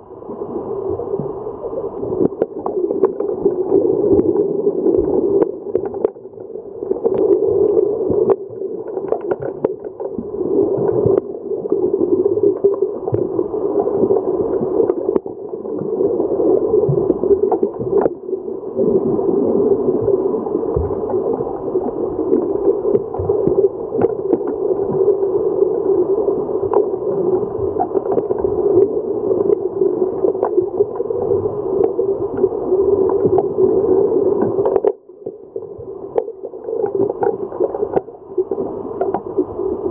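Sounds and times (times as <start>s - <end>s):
muffled underwater water rush: 0.0s - 39.9s.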